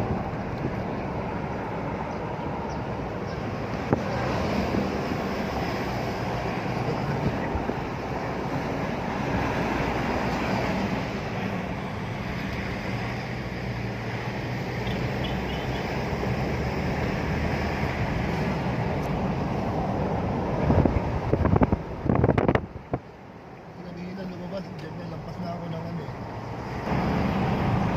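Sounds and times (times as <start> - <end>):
road noise: 0.0 - 27.9.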